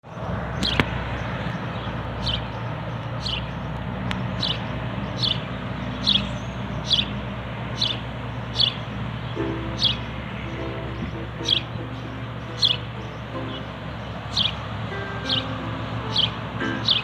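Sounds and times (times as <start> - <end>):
bird calling: 0.4 - 17.0.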